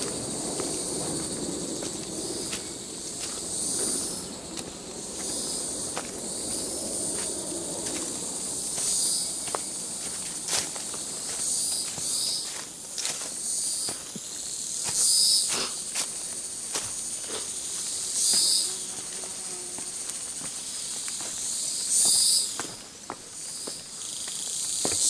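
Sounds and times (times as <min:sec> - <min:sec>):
footsteps crunching on dry leaves: 0:00.0 - 0:25.0
insects calling in short bursts: 0:00.0 - 0:25.0.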